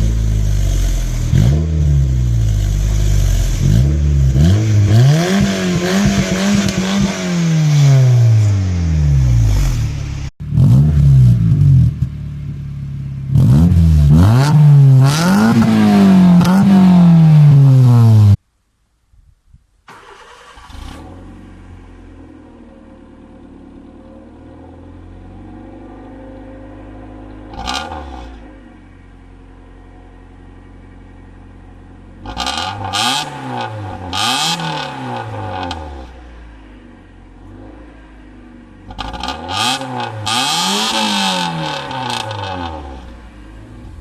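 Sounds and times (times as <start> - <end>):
car engine idling and revving: 0.0 - 18.4, 20.0 - 44.0.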